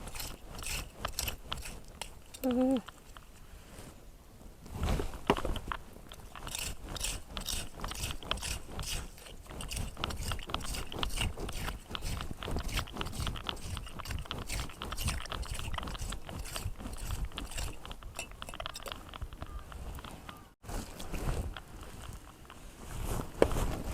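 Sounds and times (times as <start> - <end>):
rake scraping wet sand: 0.0 - 4.0, 4.8 - 23.9.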